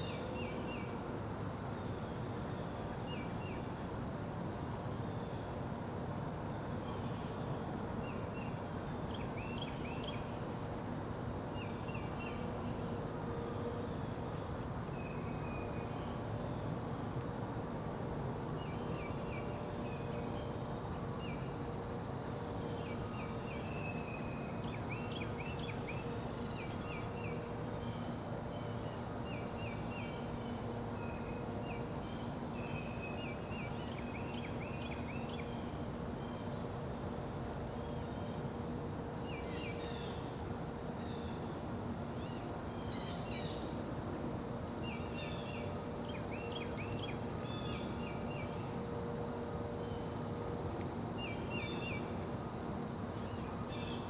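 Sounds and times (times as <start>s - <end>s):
insects trilling: 9.1s - 54.0s.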